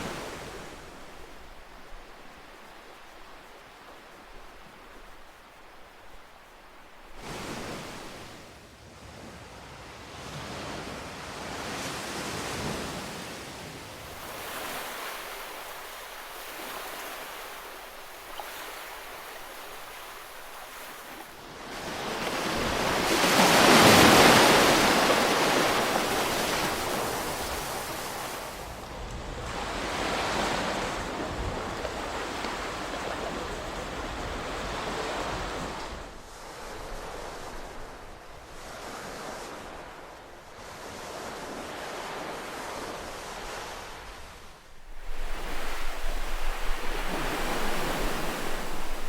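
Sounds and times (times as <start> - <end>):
ocean waves breaking on shore: 0.0 - 49.0.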